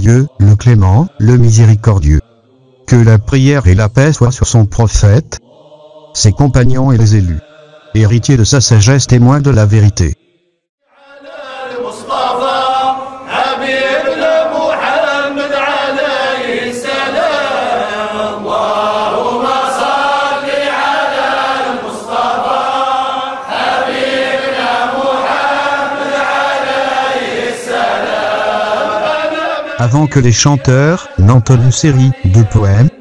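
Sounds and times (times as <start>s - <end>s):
men chanting together: 2.2s - 3.2s, 5.4s - 8.6s, 9.9s - 33.0s.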